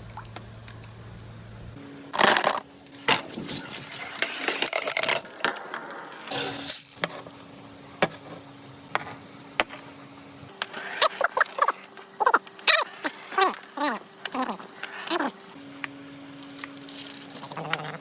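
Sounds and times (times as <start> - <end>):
faint small motor hum: 0.0 - 18.0.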